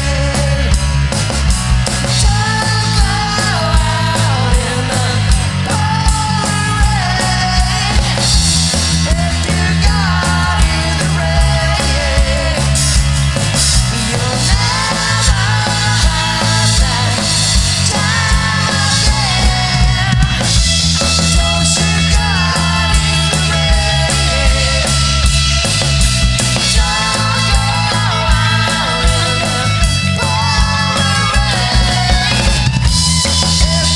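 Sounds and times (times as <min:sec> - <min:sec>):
drums keeping a beat: 0:00.0 - 0:33.9
rock band playing: 0:00.0 - 0:33.9.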